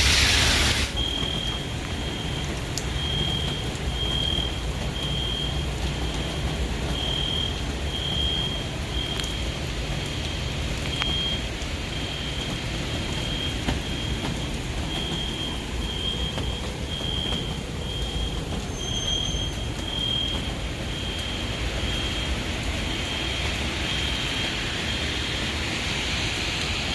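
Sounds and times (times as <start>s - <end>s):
car driving through heavy rain: 0.0s - 26.9s.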